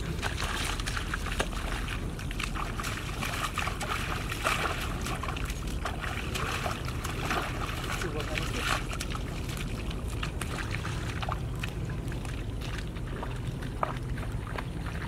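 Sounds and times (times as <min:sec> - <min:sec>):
shallow water splashing: 0:00.0 - 0:15.0
steady low rumble: 0:00.0 - 0:15.0.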